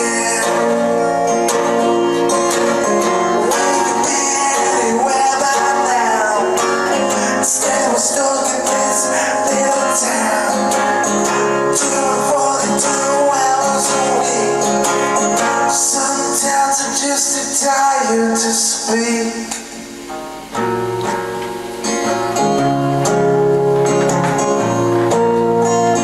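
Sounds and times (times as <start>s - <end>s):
strummed guitar: 0.0s - 26.0s.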